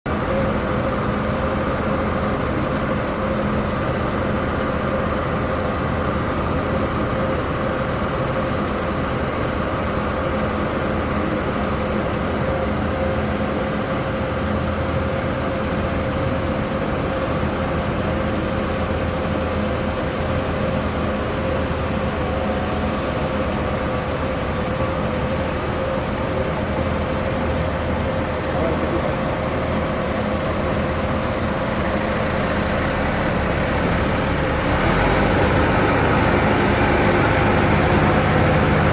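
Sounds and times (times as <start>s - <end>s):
diesel engine running: 0.1s - 38.9s
steady whine: 0.1s - 38.9s.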